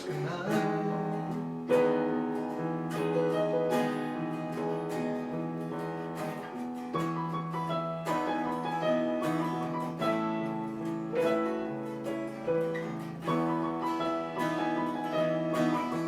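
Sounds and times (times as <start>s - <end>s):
acoustic guitar: 0.0s - 16.0s
piano playing country chords: 0.0s - 16.0s.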